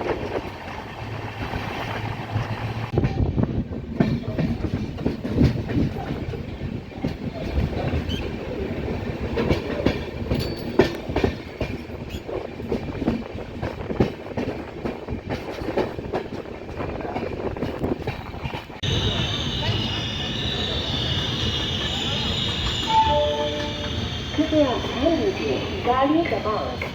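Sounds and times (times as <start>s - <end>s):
train wheels clattering on rails: 0.0s - 26.9s.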